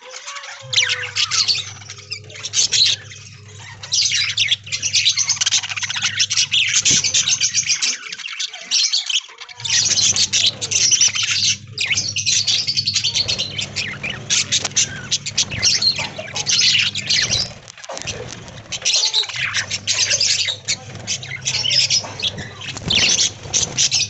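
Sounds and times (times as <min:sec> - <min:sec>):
budgerigars chattering: 0:00.0 - 0:24.0.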